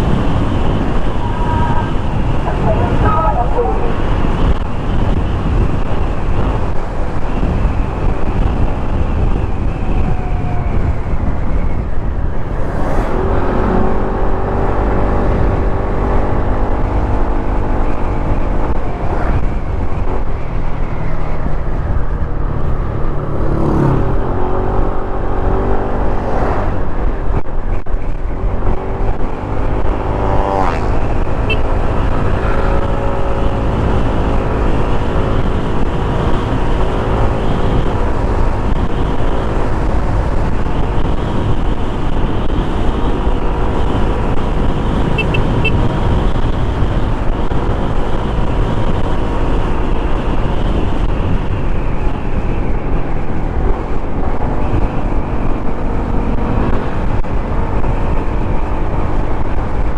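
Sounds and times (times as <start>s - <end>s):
heavy wind: 0.0s - 59.9s
road rumble: 0.0s - 59.9s.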